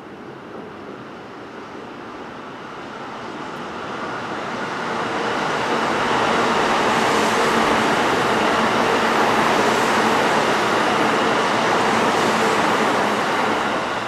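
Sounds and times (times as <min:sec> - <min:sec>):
train approaching: 0:00.0 - 0:14.0.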